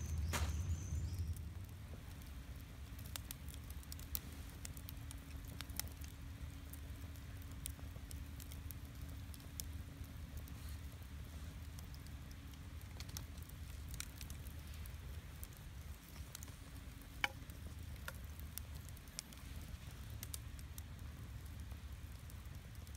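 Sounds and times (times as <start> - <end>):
loud snap of fire: 0.0 - 22.9
low steady rumble: 0.0 - 22.9
wood fire crackling: 0.0 - 22.9.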